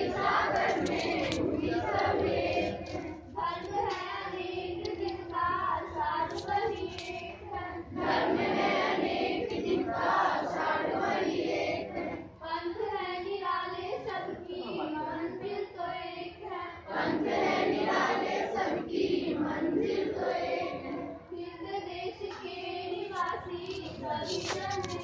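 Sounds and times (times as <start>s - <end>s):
children singing in unison: 0.0s - 24.7s.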